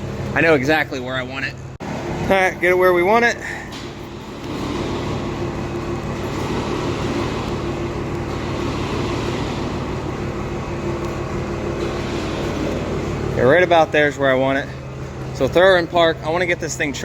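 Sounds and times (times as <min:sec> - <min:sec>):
electric winch humming: 0:01.8 - 0:17.0.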